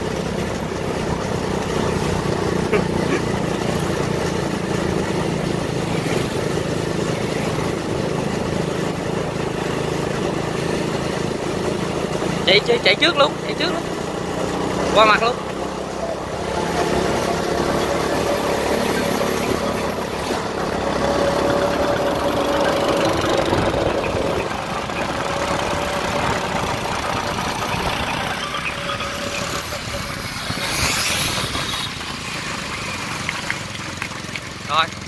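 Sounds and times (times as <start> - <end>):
small motorbike engines running: 0.0 - 35.0.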